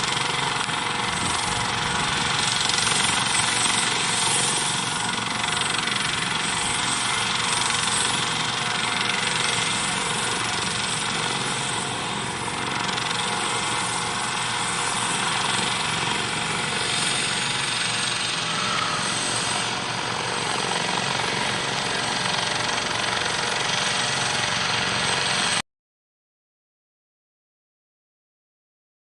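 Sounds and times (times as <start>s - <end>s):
helicopter turbine and rotor: 0.0s - 25.6s.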